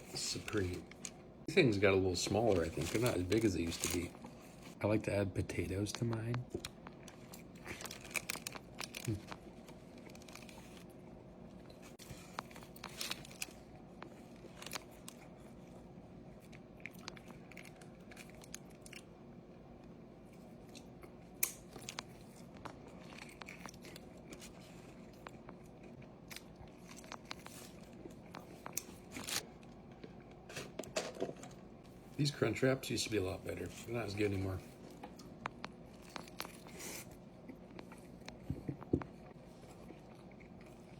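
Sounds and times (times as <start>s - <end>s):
crunching and chewing food: 0.0s - 40.9s.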